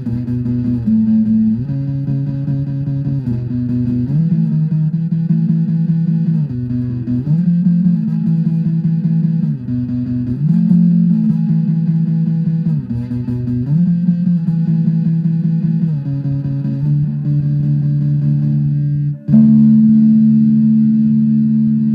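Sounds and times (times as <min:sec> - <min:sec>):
sliding guitar chords: 0:00.0 - 0:21.9.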